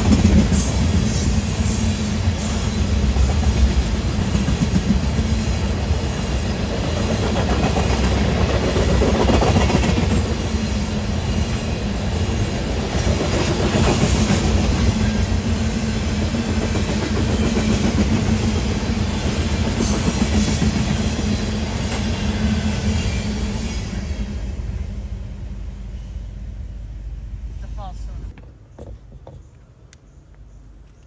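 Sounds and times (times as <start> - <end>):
freight train wheels on rails: 0.0 - 29.2.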